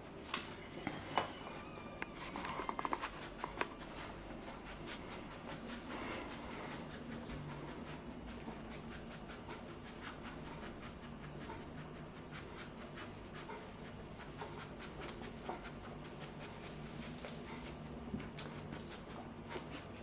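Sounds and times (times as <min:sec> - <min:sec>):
puppy panting softly: 0:02.3 - 0:20.0.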